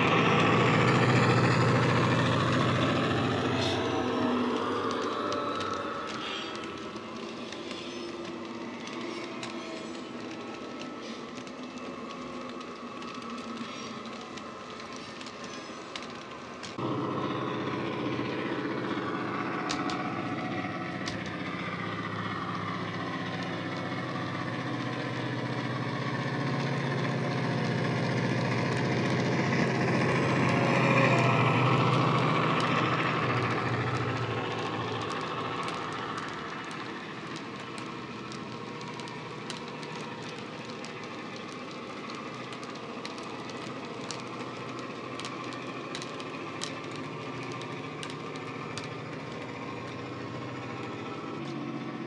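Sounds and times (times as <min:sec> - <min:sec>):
deep diesel engine: 0:00.0 - 0:52.0
wheels clicking on track: 0:00.0 - 0:52.0.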